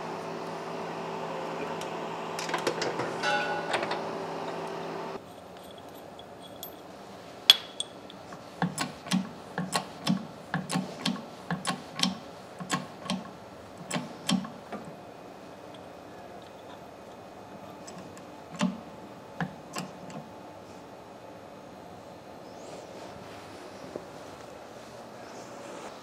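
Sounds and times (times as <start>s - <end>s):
shop hum: 0.0s - 26.0s.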